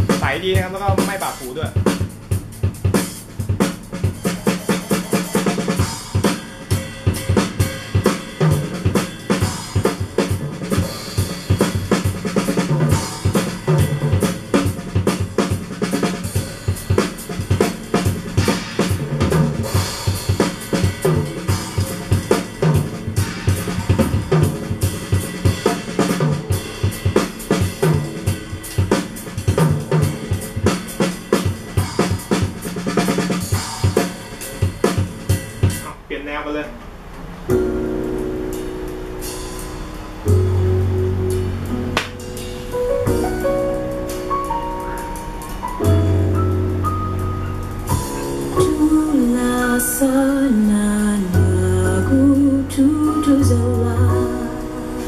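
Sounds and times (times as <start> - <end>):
drum kit solo: 0.0 - 55.0.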